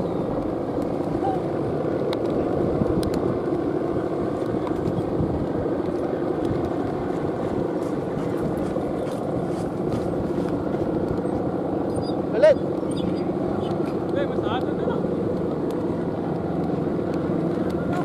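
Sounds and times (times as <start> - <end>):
kite hummer bows droning: 0.0 - 18.0
wind rumble on microphone: 0.0 - 18.0.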